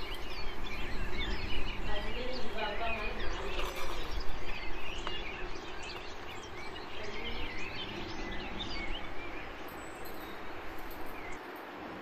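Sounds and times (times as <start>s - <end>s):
small birds chirping: 0.0s - 11.7s
steady ambient hiss: 0.0s - 12.0s.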